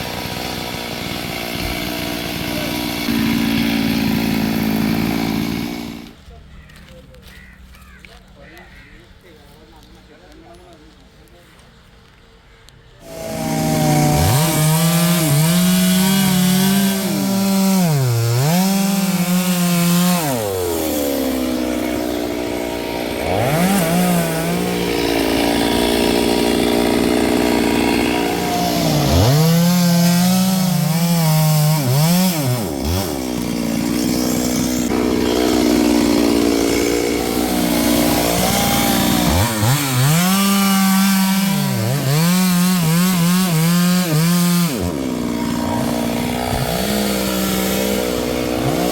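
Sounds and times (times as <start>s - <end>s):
chainsaw cutting wood: 0.0s - 6.3s, 13.0s - 48.9s.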